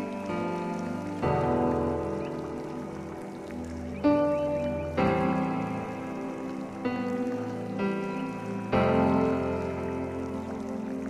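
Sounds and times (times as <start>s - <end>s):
background music held chords: 0.0s - 11.0s.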